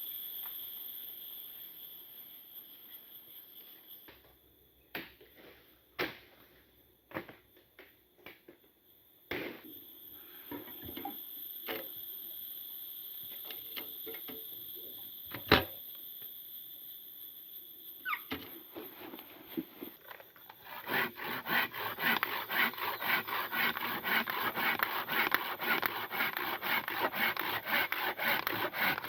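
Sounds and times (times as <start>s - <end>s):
insects chirring: 0.0s - 5.8s, 8.4s - 29.0s.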